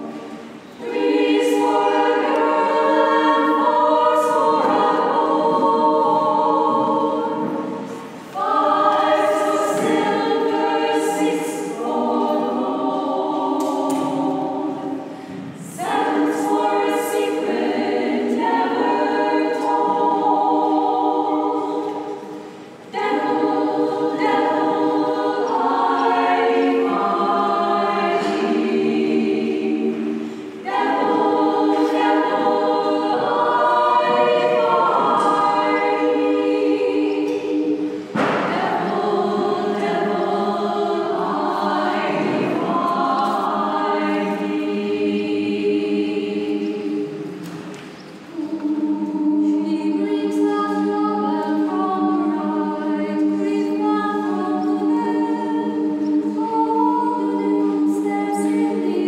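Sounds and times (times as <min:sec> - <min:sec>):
women's choir singing: 0:00.0 - 0:59.0.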